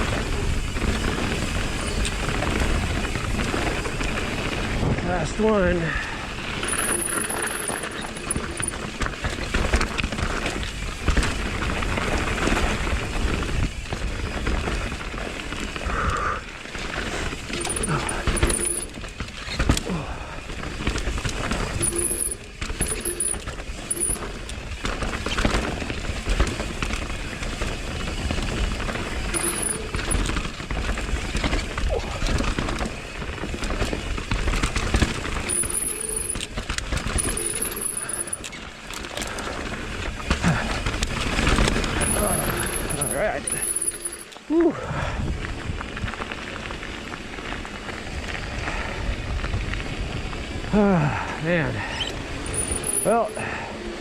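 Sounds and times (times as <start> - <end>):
bike chain and frame rattling: 0.0 - 44.5, 45.5 - 53.8
bike tyres over dirt and roots: 0.0 - 54.0.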